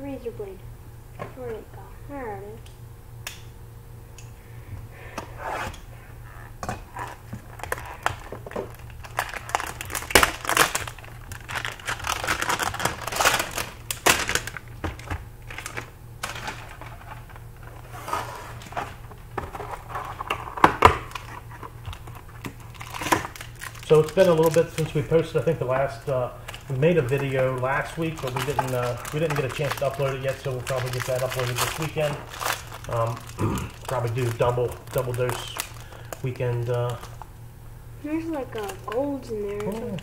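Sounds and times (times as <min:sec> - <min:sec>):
plastic and foil packaging crinkling: 0:06.8 - 0:37.3, 0:38.1 - 0:40.0.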